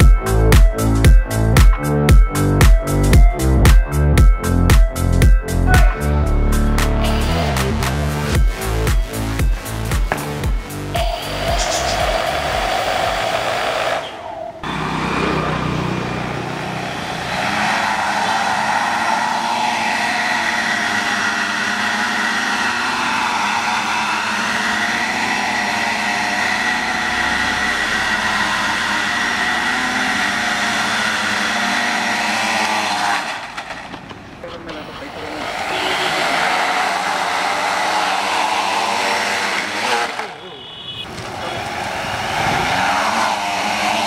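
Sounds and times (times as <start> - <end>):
drone propellers whining: 0.0 - 44.0.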